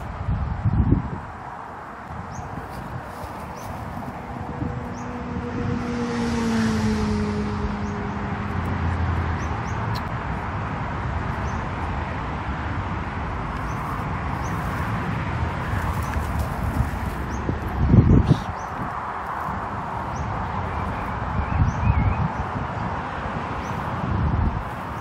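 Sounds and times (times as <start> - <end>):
steady rushing background noise: 0.0 - 25.0
vehicle passing: 0.7 - 25.0.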